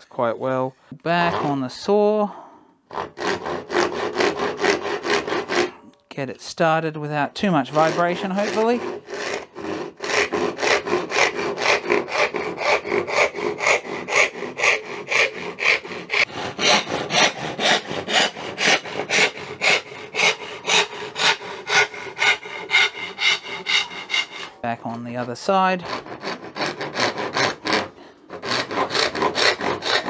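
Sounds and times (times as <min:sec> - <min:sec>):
hand saw ripping a board: 0:02.9 - 0:05.8, 0:07.5 - 0:24.6, 0:25.7 - 0:30.0.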